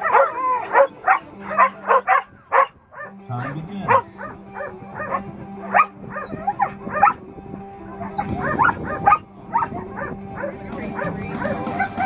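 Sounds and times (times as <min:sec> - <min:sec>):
dog yipping: 0:00.0 - 0:07.2, 0:08.0 - 0:12.0
background music: 0:00.0 - 0:12.0.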